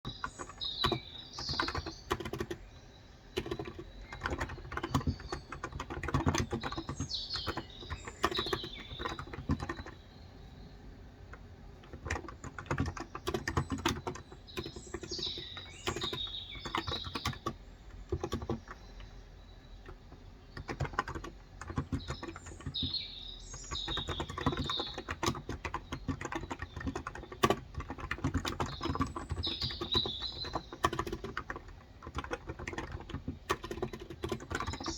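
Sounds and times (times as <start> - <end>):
birds chirping: 0.0 - 34.9
typing on a keyboard: 0.1 - 10.0, 11.2 - 34.9.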